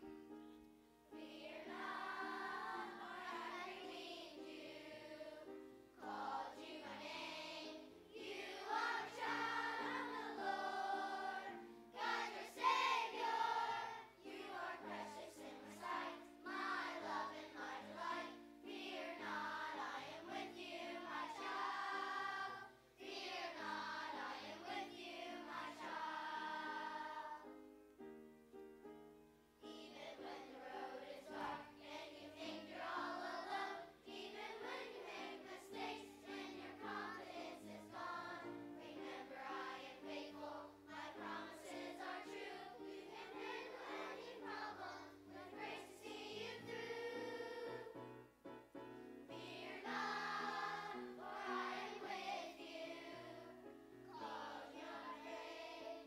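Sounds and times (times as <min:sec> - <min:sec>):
children's choir singing: 0:01.1 - 0:27.6, 0:29.6 - 0:48.1, 0:49.3 - 0:56.0.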